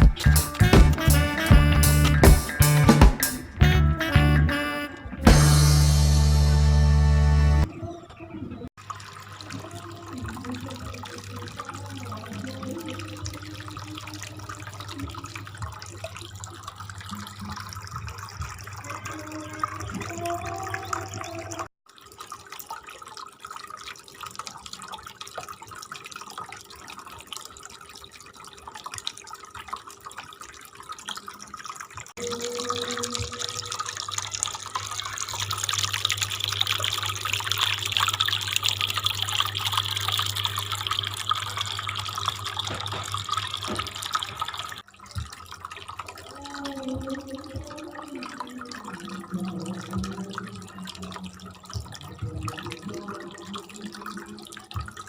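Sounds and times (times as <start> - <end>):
fountain water trickling and splashing: 8.8 - 55.0.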